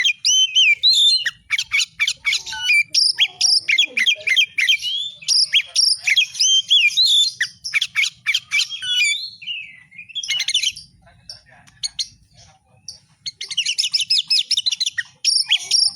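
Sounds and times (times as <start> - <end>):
bird singing: 0.0 - 15.9.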